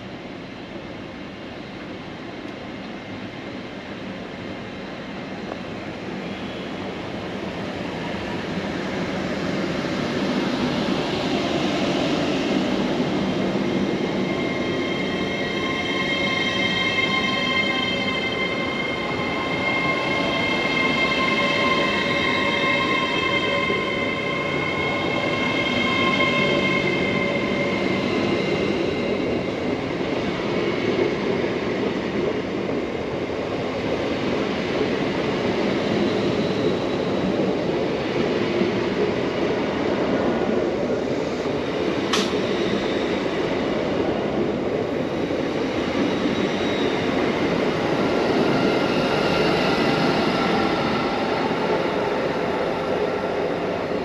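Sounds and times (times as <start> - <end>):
passenger train rumbling past: 0.0 - 54.0
train wheels squealing: 5.8 - 32.1, 34.1 - 39.0, 41.1 - 54.0.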